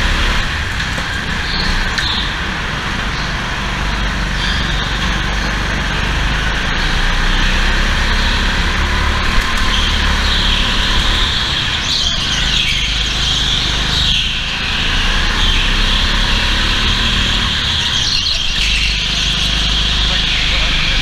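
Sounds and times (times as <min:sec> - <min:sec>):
go-kart engine whining: 0:00.0 - 0:21.0.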